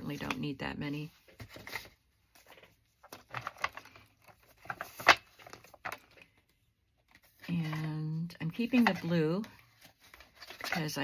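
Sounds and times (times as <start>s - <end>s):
paper cards rustling and clicking: 1.2s - 11.0s.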